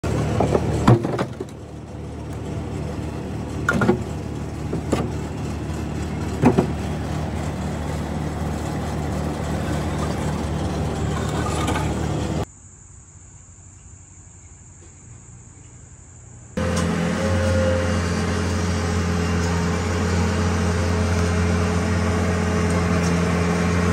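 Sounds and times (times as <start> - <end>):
engine running: 0.0 - 12.5, 16.6 - 23.9.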